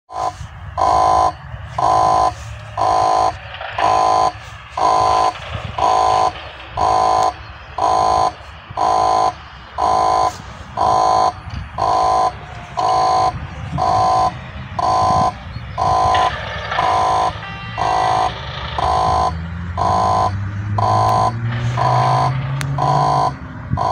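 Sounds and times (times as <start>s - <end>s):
barrier motor whine: 0.1s - 23.9s
level crossing warning tone: 0.1s - 23.9s.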